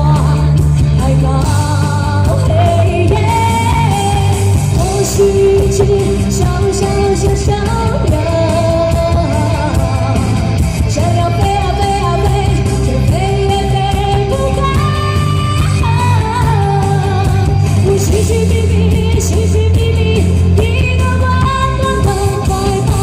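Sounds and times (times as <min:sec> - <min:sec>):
pop-rock song with singing: 0:00.0 - 0:23.0.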